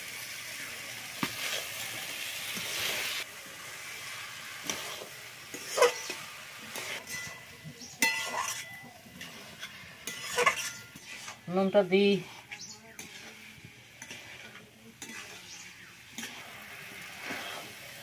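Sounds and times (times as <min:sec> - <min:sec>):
food sizzling: 0:00.0 - 0:18.0
spatula scraping a metal wok: 0:01.2 - 0:18.0.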